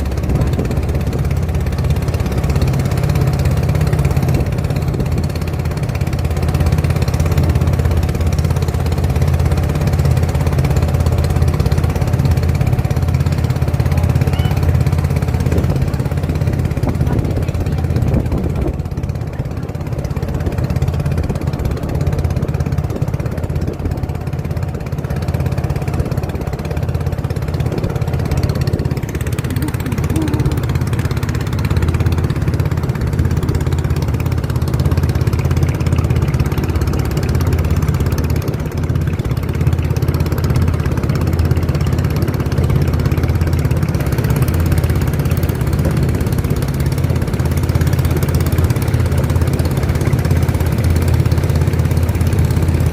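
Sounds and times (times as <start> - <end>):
motorboat engine running: 0.0 - 52.9.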